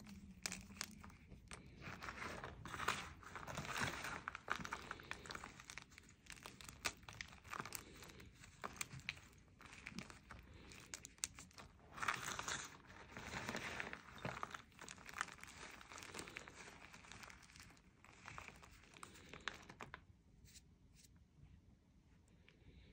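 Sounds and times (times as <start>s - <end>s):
chalk crunching and crumbling: 0.0s - 21.1s.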